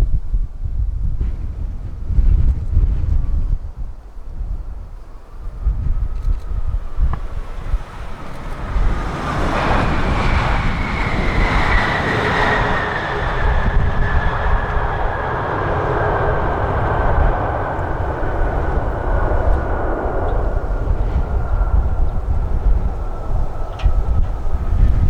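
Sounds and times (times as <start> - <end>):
wind buffeting microphone: 0.0 - 25.0
airliner passing close by: 0.2 - 25.0.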